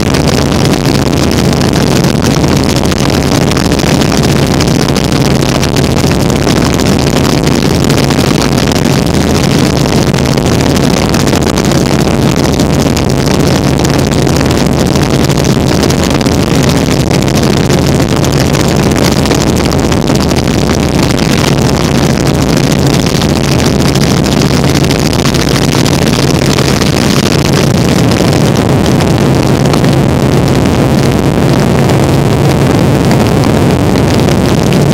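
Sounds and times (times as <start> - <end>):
rushing air: 0.0 - 34.9.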